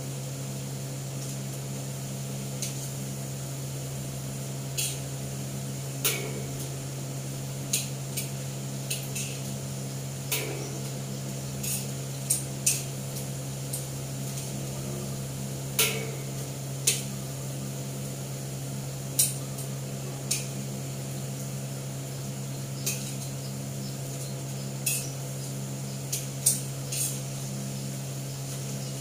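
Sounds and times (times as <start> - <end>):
low hum: 5.0 - 29.0.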